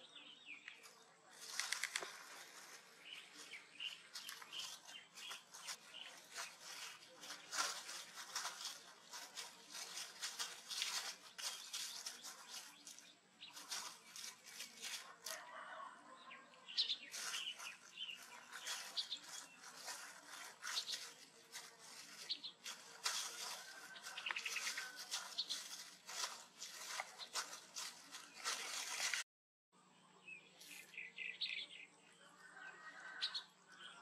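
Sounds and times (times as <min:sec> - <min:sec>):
soft rustles and crackles: 0:00.8 - 0:15.9, 0:16.8 - 0:29.3.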